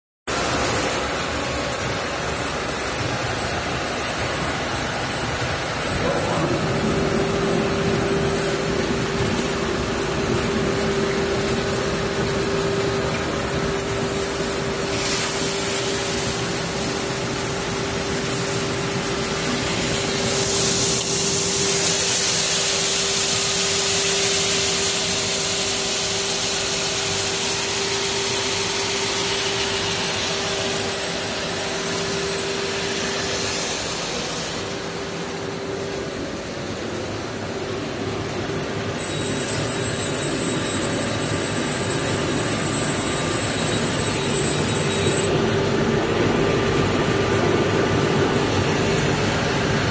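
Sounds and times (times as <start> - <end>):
mid-pitched machine hum: 0.3 - 49.9.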